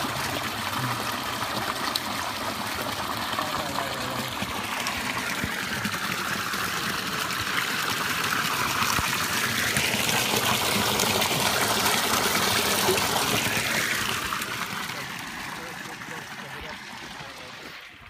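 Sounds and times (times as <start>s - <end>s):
water running from fountain spout: 0.0s - 18.0s.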